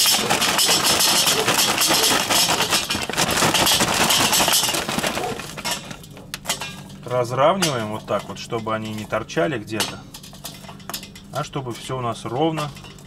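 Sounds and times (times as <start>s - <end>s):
charcoal clattering onto grate: 0.0s - 13.0s.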